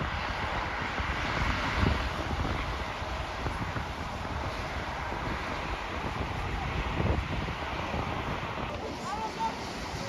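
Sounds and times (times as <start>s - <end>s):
wind blowing on microphone: 0.0s - 10.0s.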